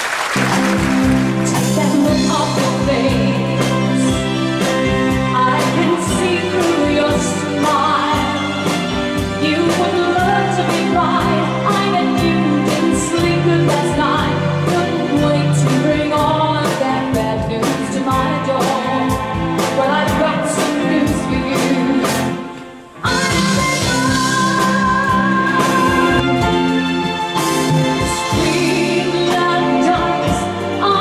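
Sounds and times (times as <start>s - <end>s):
band with steady drum beat: 0.3s - 31.0s
woman singing a pop ballad: 1.4s - 4.3s, 5.1s - 22.4s, 23.0s - 26.5s, 28.0s - 31.0s.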